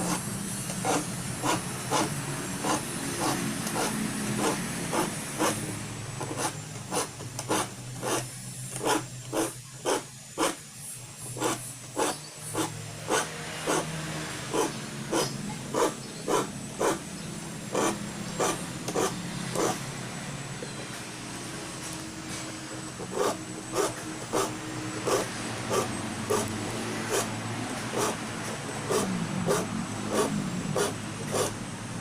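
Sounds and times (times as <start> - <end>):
hand file rasping on saw teeth: 0.0 - 19.9, 22.7 - 31.6.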